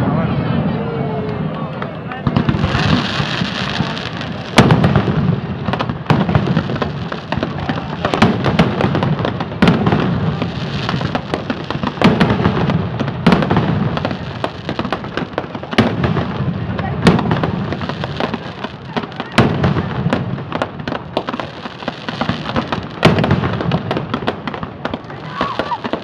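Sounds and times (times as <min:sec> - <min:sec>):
fireworks booming: 0:00.0 - 0:26.0
fireworks crackling: 0:00.0 - 0:26.0.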